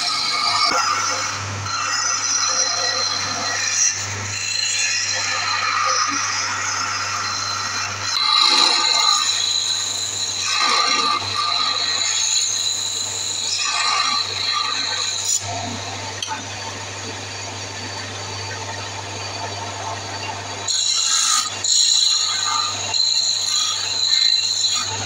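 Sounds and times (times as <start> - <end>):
wood lathe humming: 0.0 - 25.0.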